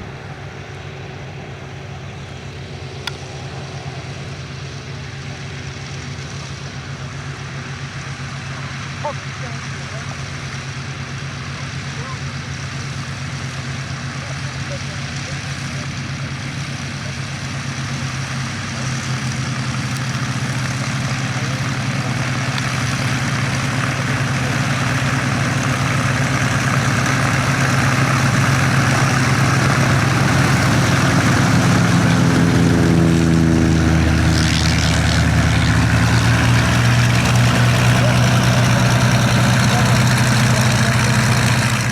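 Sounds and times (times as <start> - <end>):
propeller aircraft engine: 0.0 - 41.9.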